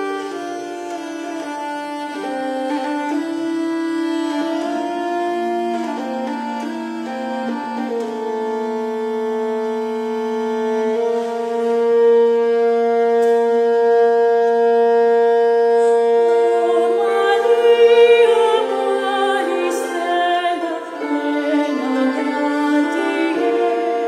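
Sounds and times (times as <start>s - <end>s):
hurdy-gurdy drone: 0.0s - 24.0s.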